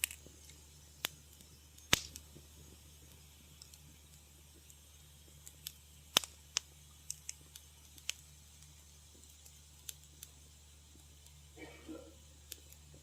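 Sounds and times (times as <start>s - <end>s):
wood fire crackling: 0.0s - 13.0s
faint low hum: 0.2s - 13.0s.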